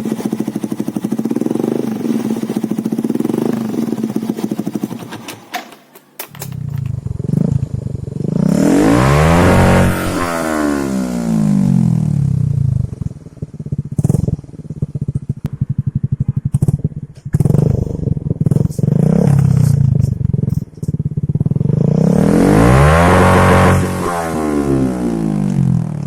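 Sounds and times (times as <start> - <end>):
motorcycle engine revving and idling: 0.0 - 5.6, 6.3 - 26.0.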